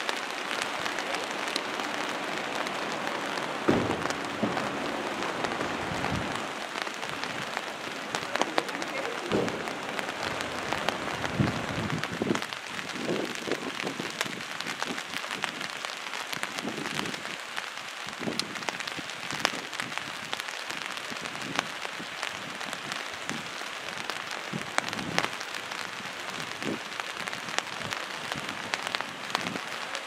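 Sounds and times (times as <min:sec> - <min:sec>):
fast-flowing floodwater: 0:00.0 - 0:30.0
rain falling: 0:00.0 - 0:30.0.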